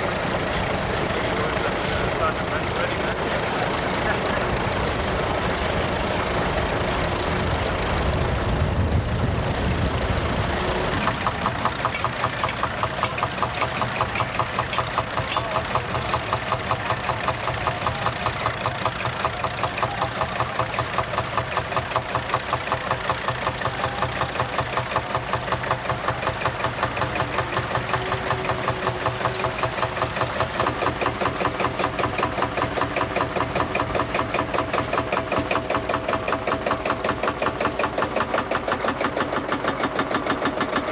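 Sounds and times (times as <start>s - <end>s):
engine idling with rapid beat: 0.0s - 40.9s
low engine rumble: 0.0s - 40.9s.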